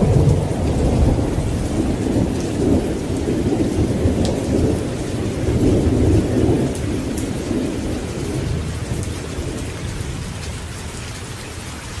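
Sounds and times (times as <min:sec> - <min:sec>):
thunder rolling: 0:00.0 - 0:10.6
rain hiss: 0:00.0 - 0:12.0
raindrops pattering: 0:00.0 - 0:12.0.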